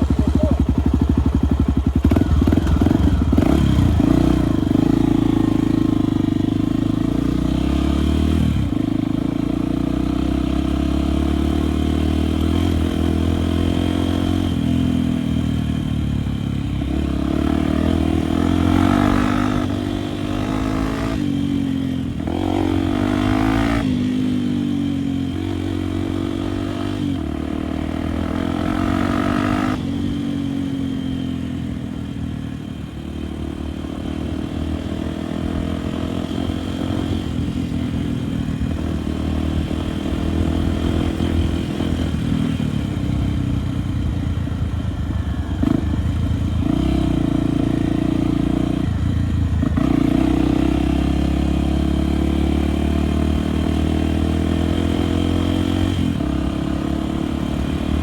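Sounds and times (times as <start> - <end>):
motorcycle engine revving under load: 0.0 - 58.0.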